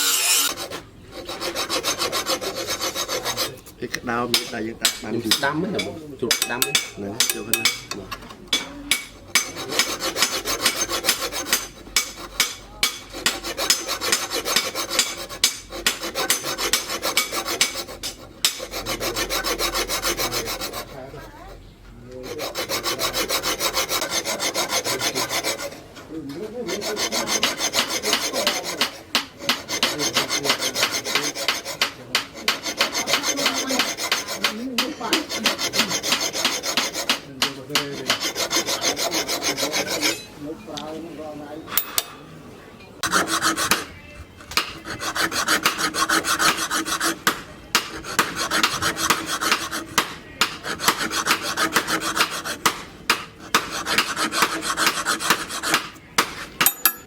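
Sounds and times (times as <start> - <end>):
file rasping on metal blade: 0.0 - 40.4, 43.0 - 57.0.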